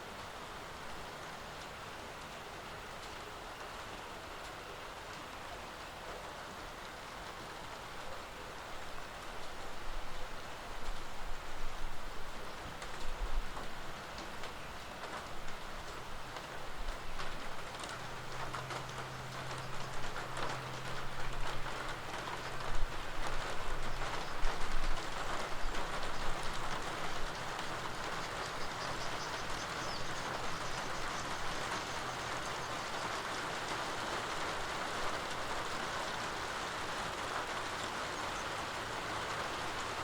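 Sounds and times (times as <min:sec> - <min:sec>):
loud close raindrops: 0:00.0 - 0:40.0
rain falling: 0:00.0 - 0:40.0.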